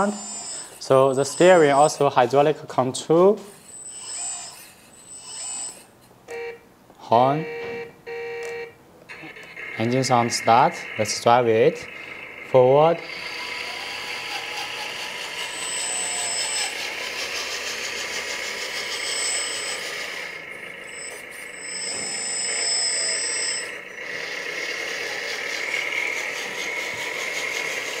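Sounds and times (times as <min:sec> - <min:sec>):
high thin electric motor whine: 0:00.0 - 0:28.0
simulated diesel engine sound: 0:00.0 - 0:28.0.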